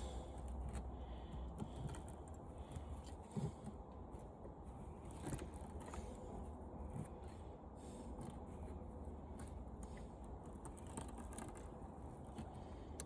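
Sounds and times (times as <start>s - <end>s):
low steady hum: 0.0s - 13.0s
metallic clicks and scrapes: 0.0s - 13.0s.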